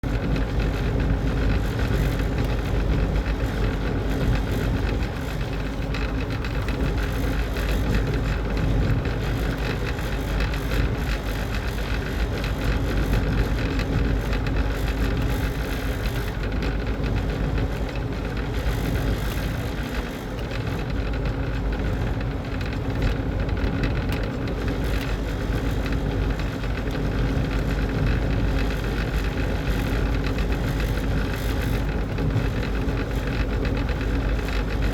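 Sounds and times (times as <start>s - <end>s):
machine running with low rumble: 0.0s - 34.9s.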